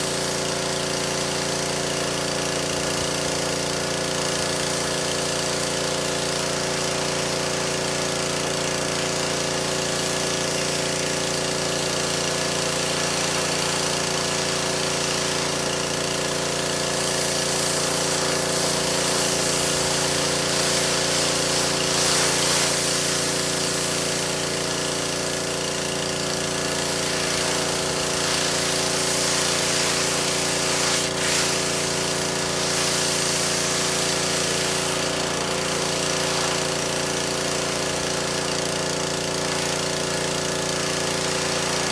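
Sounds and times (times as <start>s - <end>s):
pressure washer motor and pump drone: 0.0s - 41.9s
water jet hissing: 0.0s - 41.9s.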